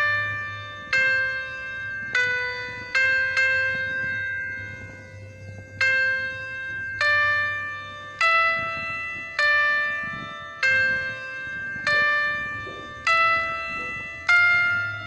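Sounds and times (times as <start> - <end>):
slow bell-like melody: 0.0 - 15.0.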